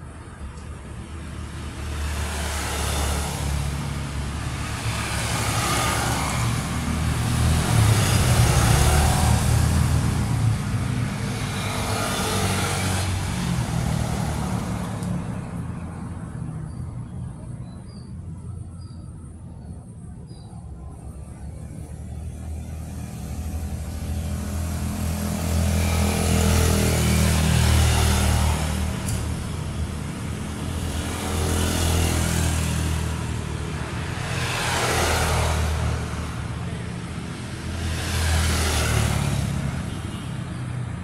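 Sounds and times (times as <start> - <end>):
traffic engine rumble: 0.0 - 41.0.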